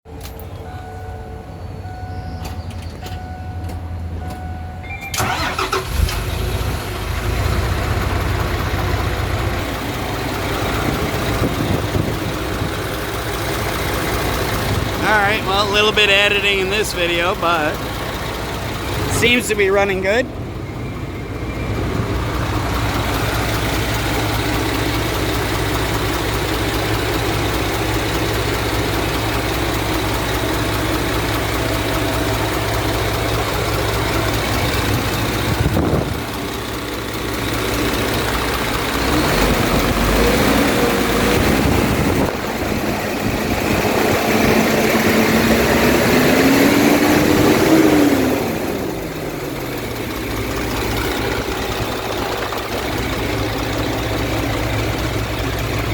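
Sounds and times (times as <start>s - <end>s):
diesel engine idling and revving: 0.1s - 55.9s.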